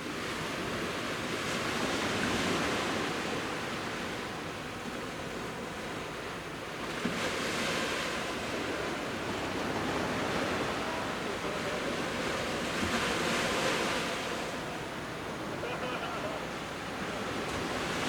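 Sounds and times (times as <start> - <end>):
sea waves breaking on beach: 0.1 - 18.0.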